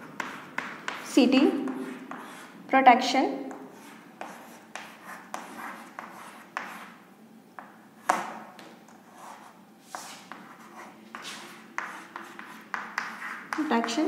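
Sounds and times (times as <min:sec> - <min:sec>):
chalk scratching on blackboard: 0:00.1 - 0:02.6, 0:03.5 - 0:07.0, 0:08.0 - 0:14.0.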